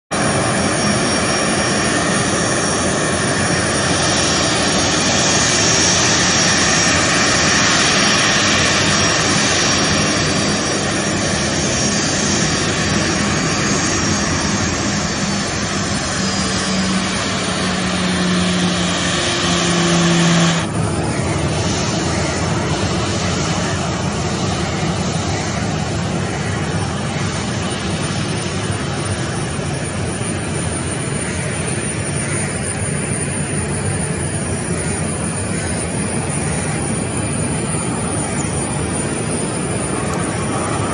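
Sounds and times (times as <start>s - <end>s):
high jet engine whine: 0.1s - 40.9s
jet engines rushing: 0.1s - 40.9s.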